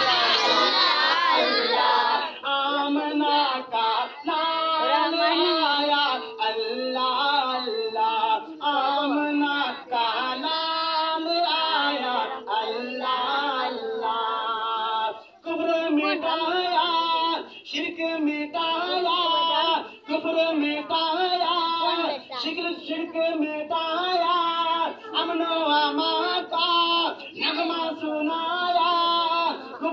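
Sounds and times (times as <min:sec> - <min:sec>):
man singing into a microphone: 0:01.8 - 0:29.9.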